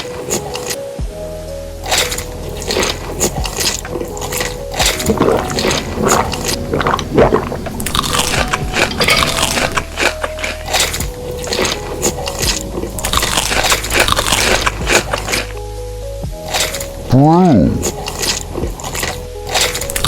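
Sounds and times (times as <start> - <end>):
crunchy food being chewed: 0.0 - 0.9, 1.8 - 15.6, 16.4 - 20.0.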